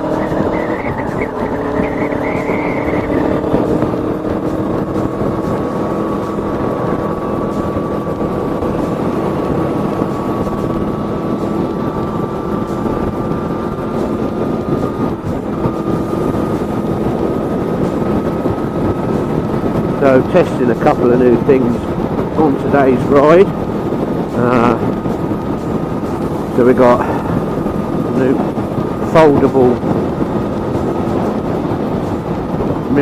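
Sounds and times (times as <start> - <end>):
motorcycle engine running: 0.0 - 33.0
rush of noise: 0.0 - 33.0.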